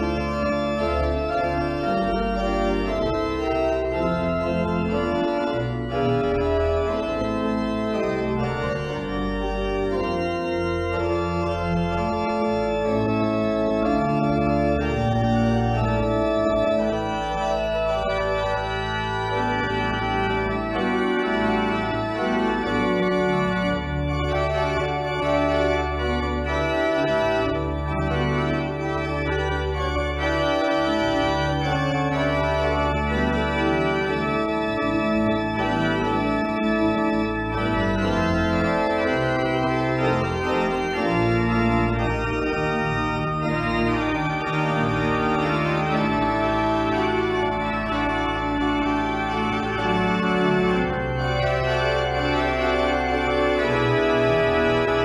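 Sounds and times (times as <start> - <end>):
low organ pedal notes: 0.0 - 55.0
organ playing chords: 0.0 - 55.0.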